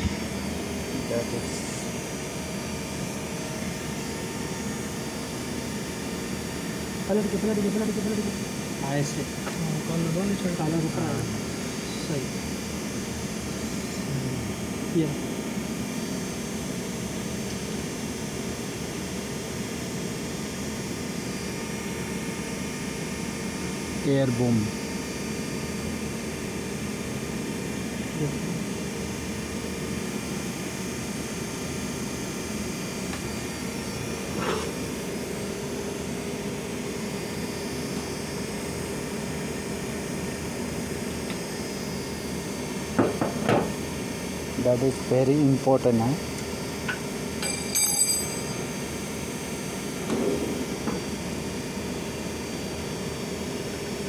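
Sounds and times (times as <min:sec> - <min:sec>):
machine hum with hiss: 0:00.0 - 0:54.0.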